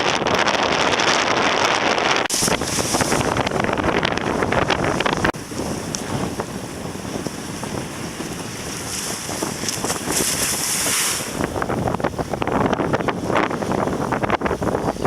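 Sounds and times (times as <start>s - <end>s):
wind buffeting microphone: 0.0s - 15.0s
rushing water: 1.6s - 15.0s.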